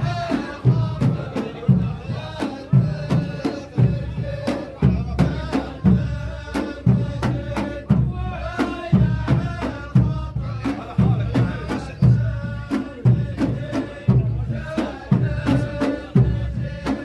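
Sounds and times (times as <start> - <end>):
men chanting in chorus: 0.0 - 17.0
steady drum rhythm: 0.0 - 17.0.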